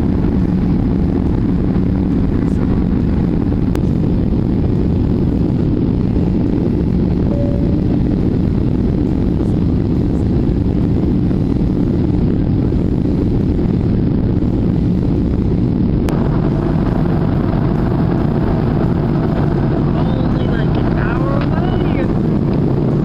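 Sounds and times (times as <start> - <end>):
jet engines rumbling: 0.0 - 23.0
rushing air in cabin: 0.0 - 23.0.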